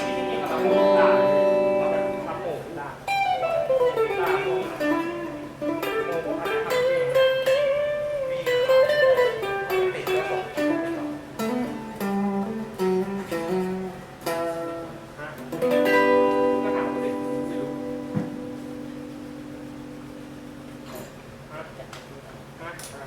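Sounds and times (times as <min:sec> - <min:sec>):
electric guitar lead melody: 0:00.0 - 0:21.1.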